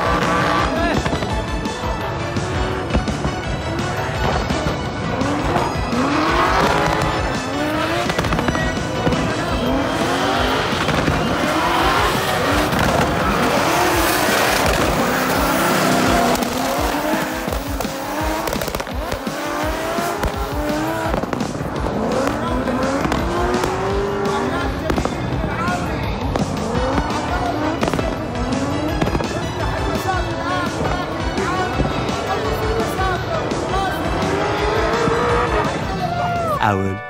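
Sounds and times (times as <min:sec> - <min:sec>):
car engines revving: 0:00.0 - 0:36.6.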